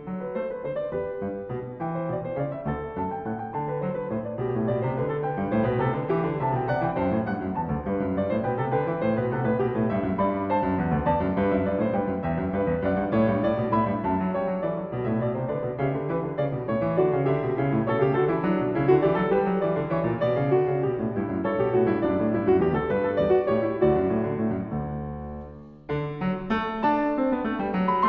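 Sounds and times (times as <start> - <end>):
solo piano music: 0.0 - 28.0.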